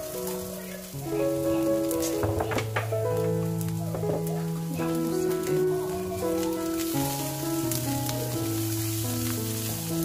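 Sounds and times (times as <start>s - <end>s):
background music with held notes: 0.0s - 10.0s
vegetables sizzling in a wok: 0.0s - 10.0s.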